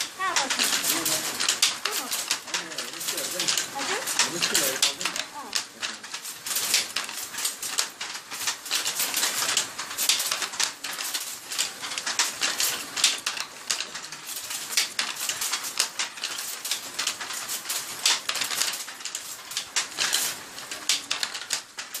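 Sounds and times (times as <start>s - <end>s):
wooden handloom clattering: 0.0s - 22.0s.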